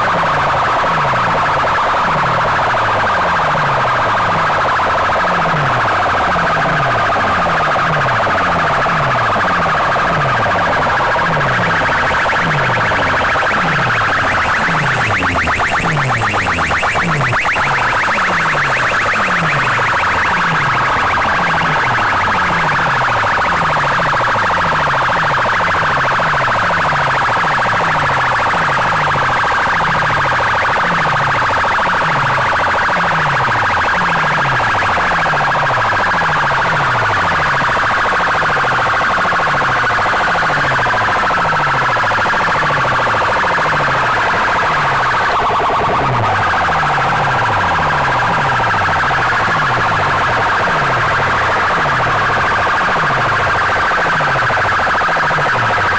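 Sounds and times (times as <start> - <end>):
overdriven siren-like electronic music: 0.0 - 55.9.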